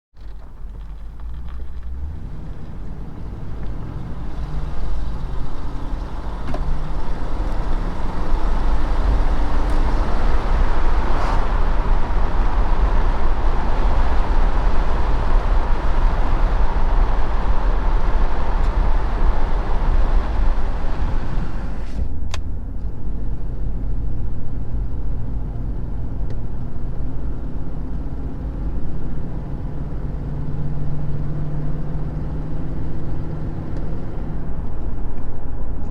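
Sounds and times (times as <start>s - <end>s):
engine running with a tick: 0.2s - 10.6s, 15.6s - 23.1s, 24.7s - 35.9s.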